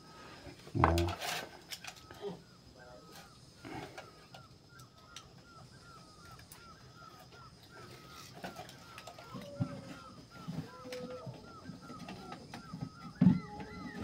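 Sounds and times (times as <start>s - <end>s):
bird chirping: 1.8s - 14.0s.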